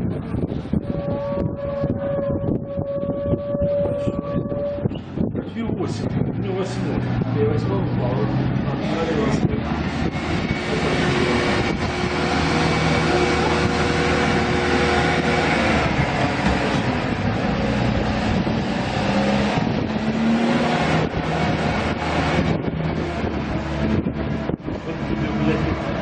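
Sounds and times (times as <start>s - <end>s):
engine noise: 0.0s - 26.0s
wind on microphone: 0.0s - 26.0s.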